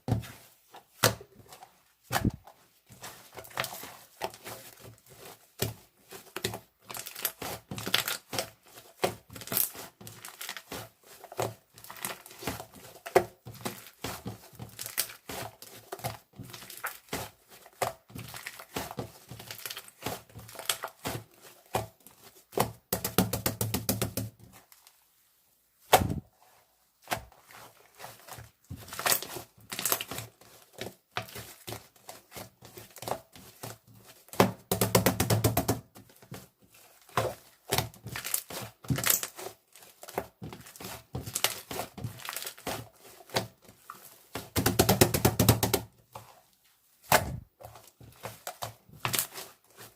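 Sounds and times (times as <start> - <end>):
crinkly material crackling: 0.1 - 22.6, 24.3 - 34.7, 35.9 - 49.9.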